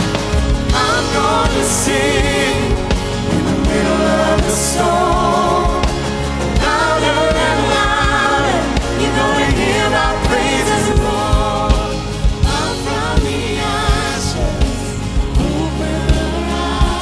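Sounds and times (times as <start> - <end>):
drum hits: 0.0 - 17.0
guitars: 0.0 - 17.0
women backing singers: 0.0 - 17.0
man singing lead: 0.6 - 17.0.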